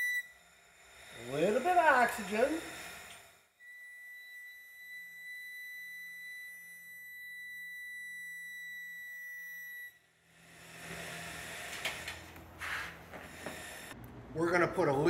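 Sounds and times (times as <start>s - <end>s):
high pure gas whistle: 0.0s - 14.0s.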